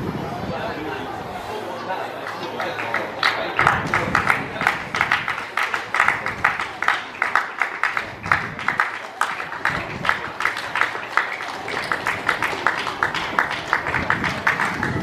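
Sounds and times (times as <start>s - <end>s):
people clapping: 2.2s - 15.0s.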